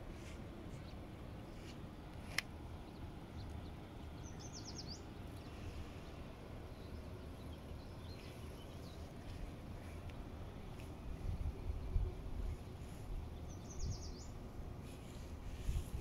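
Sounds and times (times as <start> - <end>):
steady low rumble: 0.0 - 16.0
faint bird chirps: 2.7 - 15.6.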